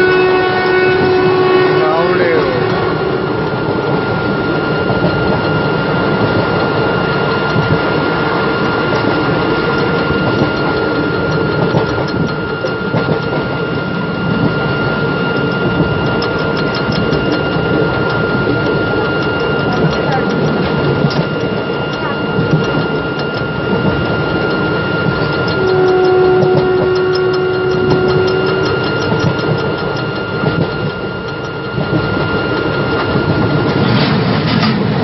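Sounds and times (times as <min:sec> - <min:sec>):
high whine: 0:00.0 - 0:35.0
train wheels rushing on rail: 0:00.0 - 0:35.0
light rail clicks: 0:01.9 - 0:35.0.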